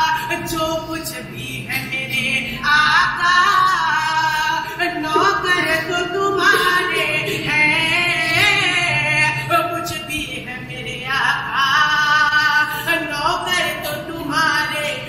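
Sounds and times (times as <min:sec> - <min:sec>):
solo voice singing devotional song: 0:00.0 - 0:15.0.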